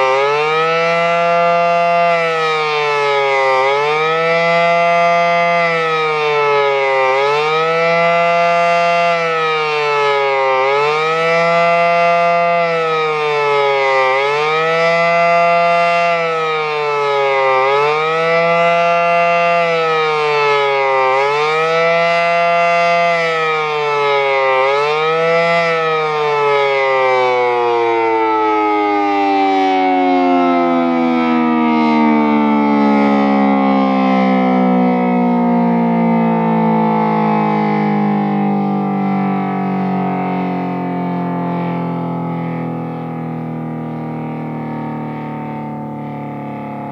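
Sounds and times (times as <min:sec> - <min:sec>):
siren winding down: 0:00.0 - 0:46.9
warning siren wailing: 0:00.0 - 0:46.9.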